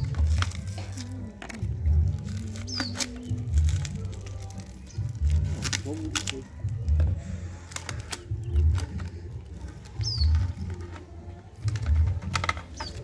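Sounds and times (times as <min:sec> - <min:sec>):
paper crinkling and tearing: 0:00.0 - 0:06.8, 0:07.6 - 0:13.0.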